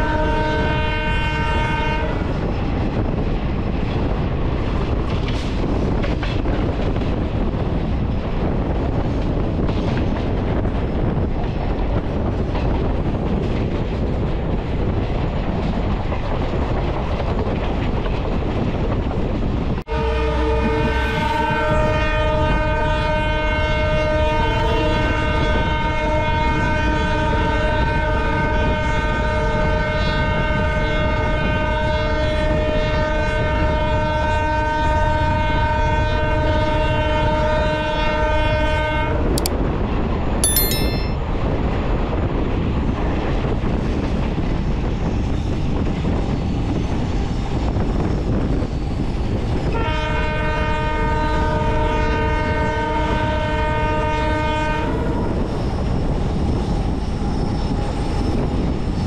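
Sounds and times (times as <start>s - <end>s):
train wheels rumbling on rails: 0.0s - 40.1s, 41.4s - 59.0s
wind noise: 0.0s - 59.0s.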